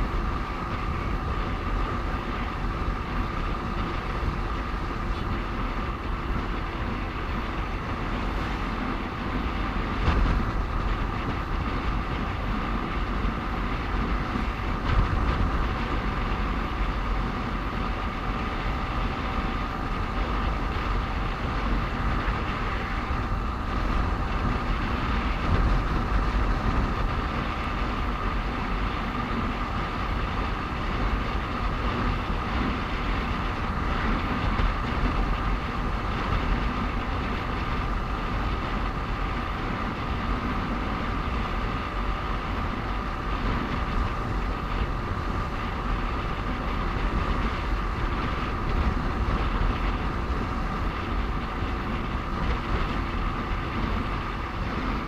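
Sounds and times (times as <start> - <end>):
steady whine: 0.0 - 55.0
wind and road noise: 0.0 - 55.0.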